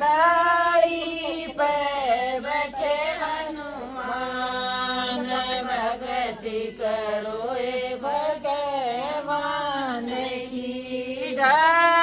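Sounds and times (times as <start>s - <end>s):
women singing devotional song: 0.0s - 12.0s.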